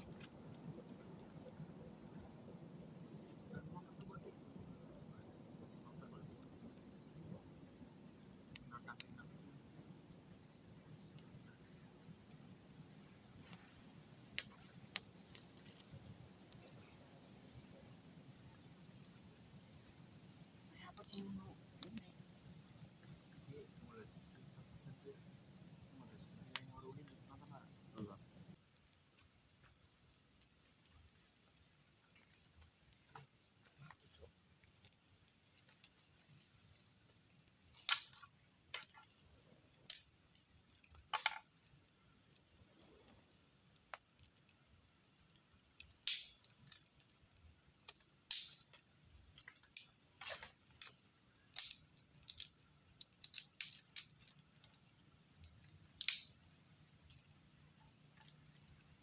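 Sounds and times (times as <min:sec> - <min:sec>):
sharp snaps and cracks: 0:00.0 - 0:17.8, 0:18.4 - 0:59.0.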